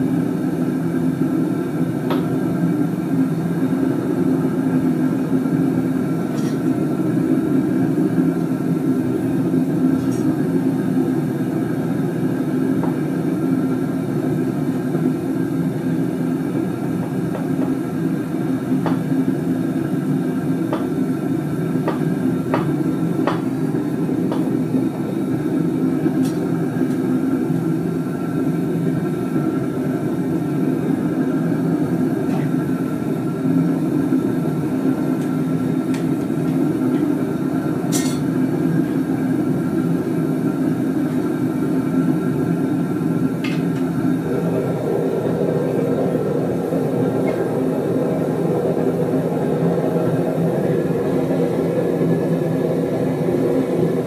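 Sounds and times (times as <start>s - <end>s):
gas burner flame rushing: 0.0s - 54.0s.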